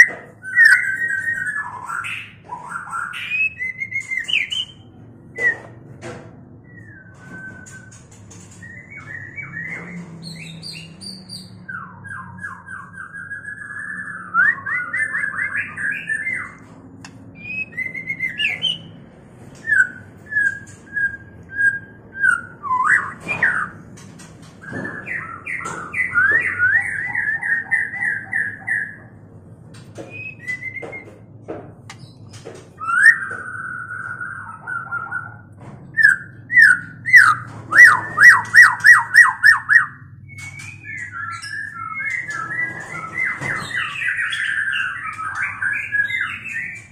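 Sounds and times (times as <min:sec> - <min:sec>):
songbirds singing and calling: 0:00.0 - 0:46.9.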